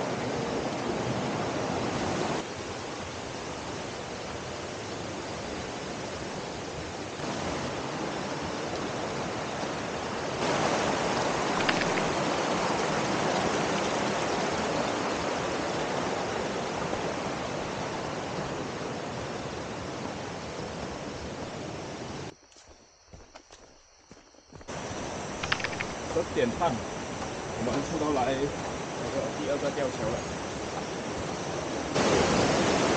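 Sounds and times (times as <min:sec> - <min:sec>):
stream rushing over stones: 0:00.0 - 0:22.3, 0:24.7 - 0:32.9.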